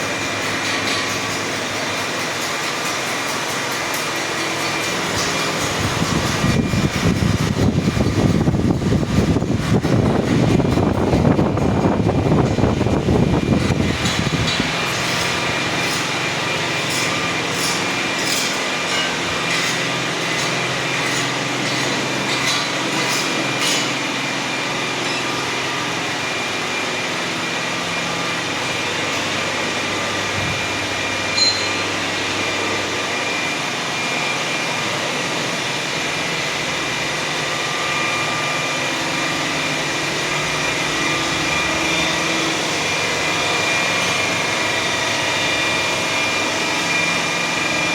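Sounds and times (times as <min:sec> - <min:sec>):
boring machine whine: 0:00.0 - 0:47.9.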